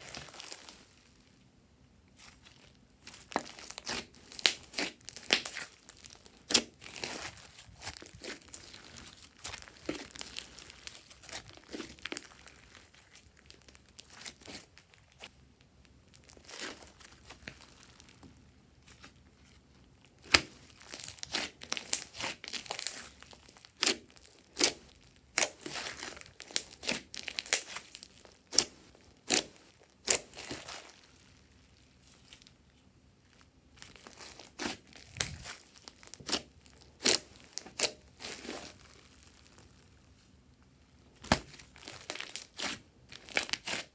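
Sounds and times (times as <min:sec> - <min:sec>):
hands kneading sticky slime: 0:00.0 - 0:01.2, 0:02.1 - 0:32.8, 0:33.7 - 0:39.9, 0:41.1 - 0:43.9.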